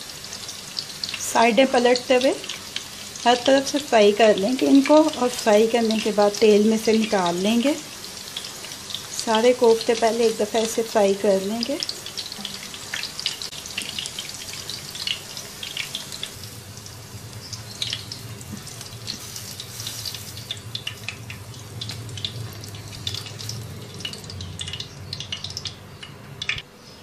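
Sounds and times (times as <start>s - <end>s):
meat sizzling in oil: 0.0s - 26.6s.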